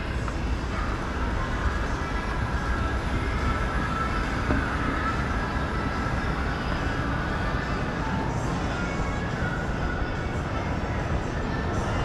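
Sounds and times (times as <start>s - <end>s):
busy street noise: 0.0s - 12.0s.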